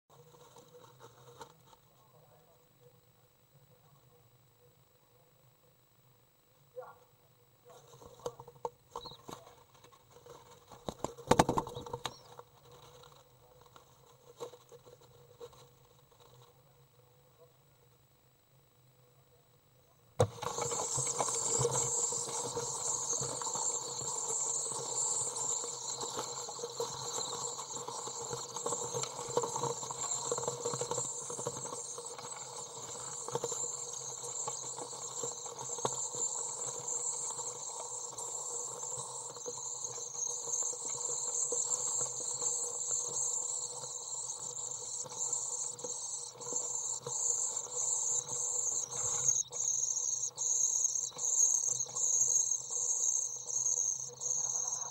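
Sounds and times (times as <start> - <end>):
birds trilling in nest box: 7.6 - 17.2, 20.2 - 54.9.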